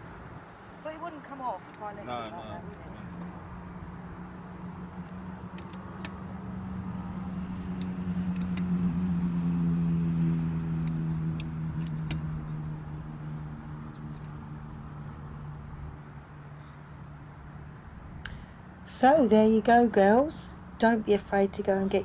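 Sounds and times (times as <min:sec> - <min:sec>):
passing vehicle engine hum: 0:00.0 - 0:22.0.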